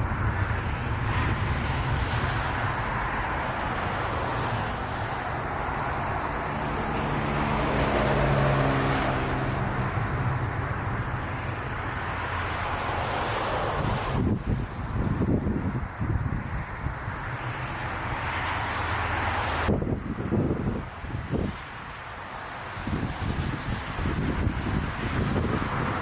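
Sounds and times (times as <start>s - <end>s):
jet airliner engine rumble: 0.0s - 26.0s.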